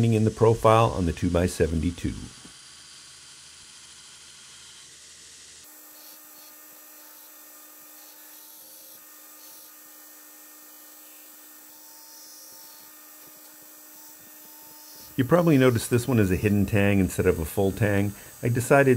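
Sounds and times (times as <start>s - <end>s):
belt grinder grinding steel: 0.0s - 18.9s.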